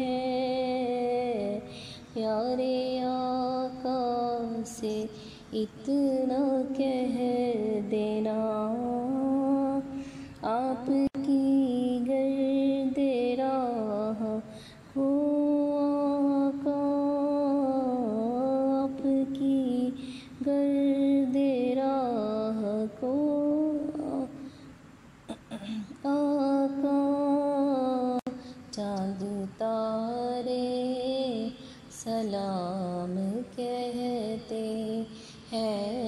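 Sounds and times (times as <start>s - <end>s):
woman singing unaccompanied: 0.0s - 24.6s, 25.5s - 36.0s.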